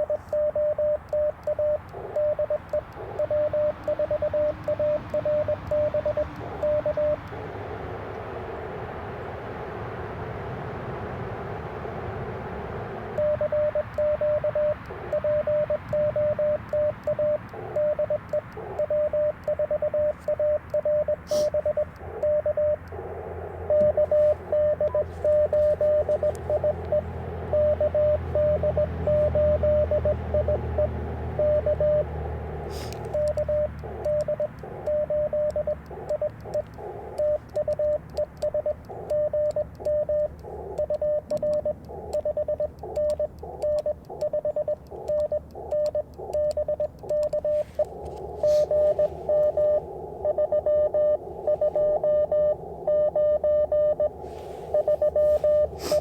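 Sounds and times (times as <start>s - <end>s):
sharp clicks: 0.0s - 8.3s, 12.9s - 56.0s
morse code tone: 0.0s - 8.4s, 12.8s - 56.0s
receiver hiss: 0.0s - 56.0s.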